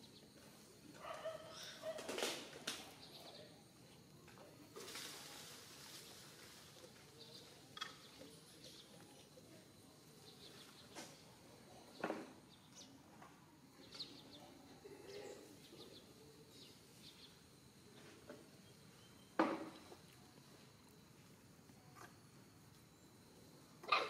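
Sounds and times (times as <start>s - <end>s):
faint outdoor ambience: 0.0s - 24.0s.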